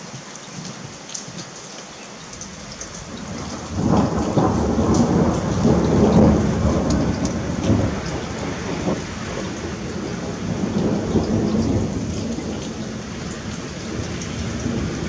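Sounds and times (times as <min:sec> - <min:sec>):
rain hiss: 0:00.0 - 0:15.0
raindrop ticks: 0:00.0 - 0:15.0
thunder rumbling: 0:02.4 - 0:15.0.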